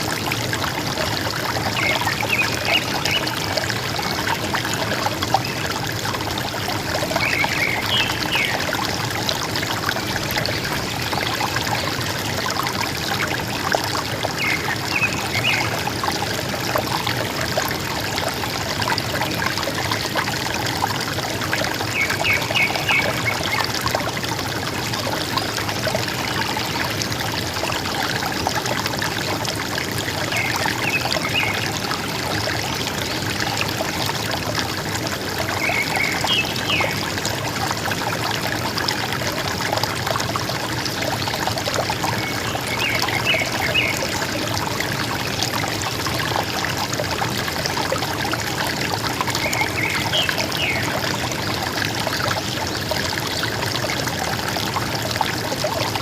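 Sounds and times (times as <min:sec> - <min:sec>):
river gurgling over stones: 0:00.0 - 0:56.0.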